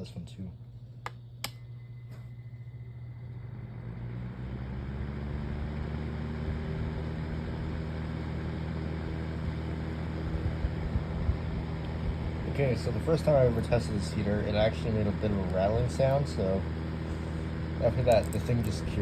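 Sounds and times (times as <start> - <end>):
fan heater motor humming: 0.0 - 19.0.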